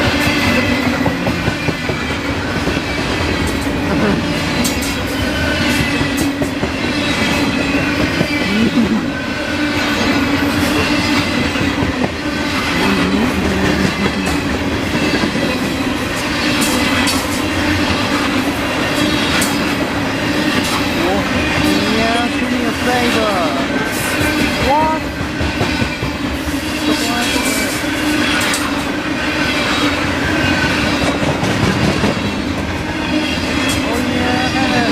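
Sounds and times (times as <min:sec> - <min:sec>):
steel wheels rumbling on rail: 0:00.0 - 0:34.9
wheels clacking over rail joints: 0:00.0 - 0:34.9.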